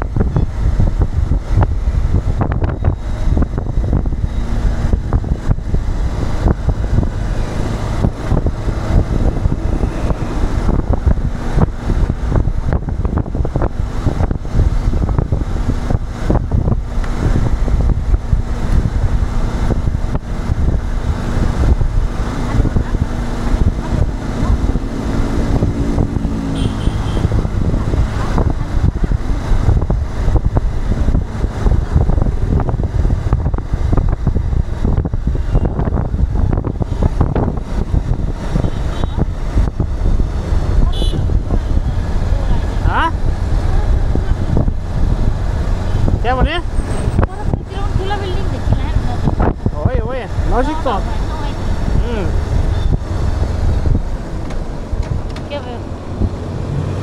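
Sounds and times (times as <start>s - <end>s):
vehicle engine and road noise: 0.0s - 57.0s
wind buffeting microphone: 0.0s - 57.0s.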